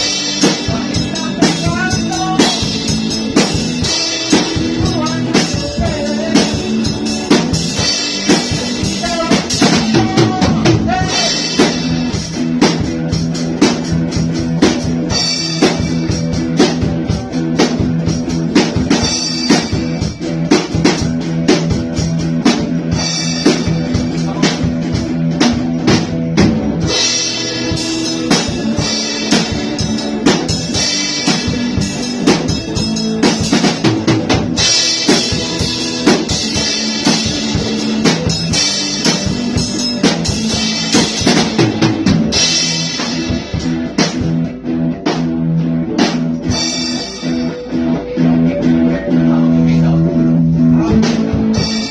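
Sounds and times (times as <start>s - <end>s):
drum kit: 0.0s - 51.9s
guitar playing: 0.0s - 51.9s.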